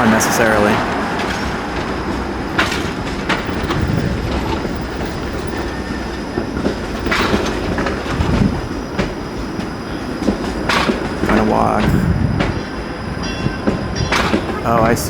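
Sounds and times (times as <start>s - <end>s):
street traffic noise: 0.0s - 15.0s
streetcar wheels clacking: 0.0s - 15.0s.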